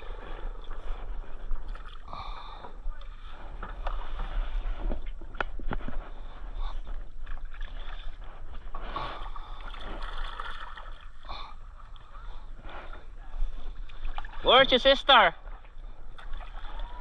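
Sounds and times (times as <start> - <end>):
water splashing around kayak: 0.0 - 17.0.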